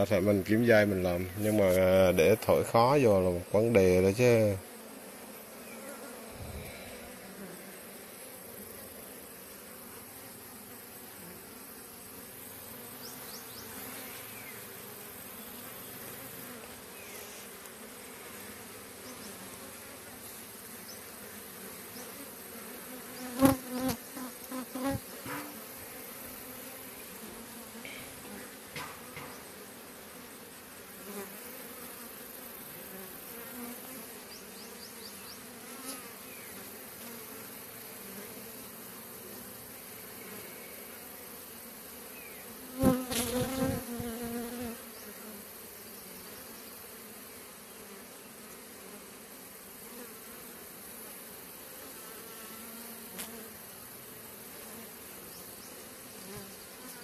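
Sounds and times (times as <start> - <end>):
honeybee swarm buzzing: 0.0 - 57.0.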